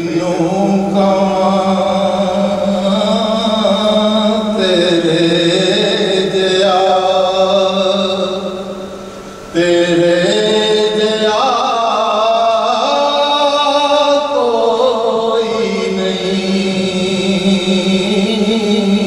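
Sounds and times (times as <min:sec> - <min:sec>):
man chanting into a microphone: 0:00.0 - 0:08.8, 0:09.5 - 0:19.0.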